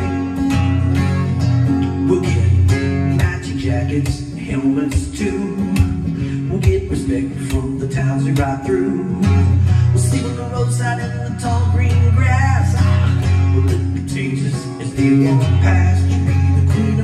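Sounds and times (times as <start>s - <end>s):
acoustic guitar strumming: 0.0s - 17.0s
low bass notes: 0.0s - 17.0s
man singing: 1.8s - 17.0s.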